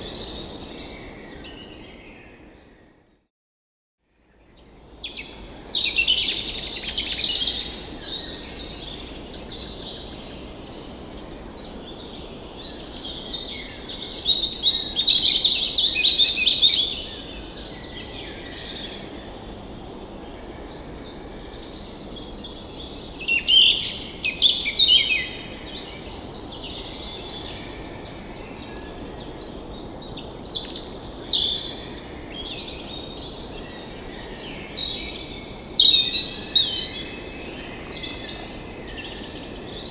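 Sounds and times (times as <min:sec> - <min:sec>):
songbirds singing and chirping: 0:04.5 - 0:39.9.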